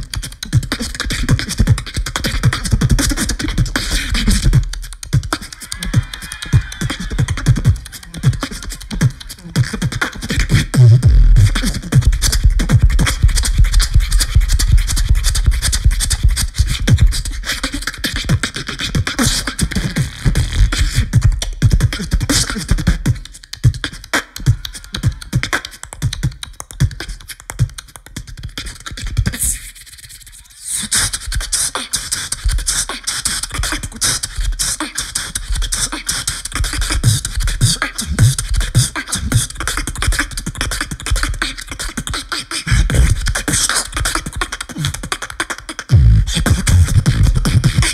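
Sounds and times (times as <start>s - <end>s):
beatboxing through a microphone: 0.0s - 47.9s.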